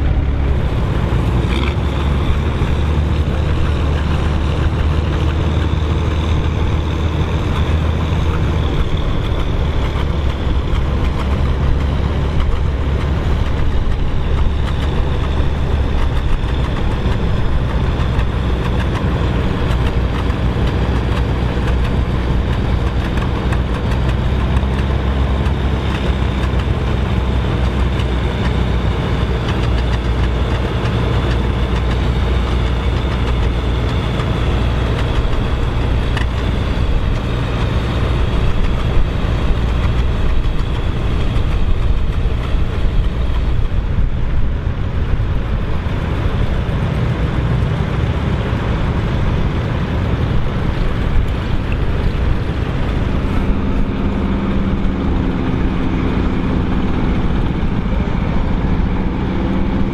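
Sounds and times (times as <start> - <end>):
tractor engines driving past: 0.0 - 59.9.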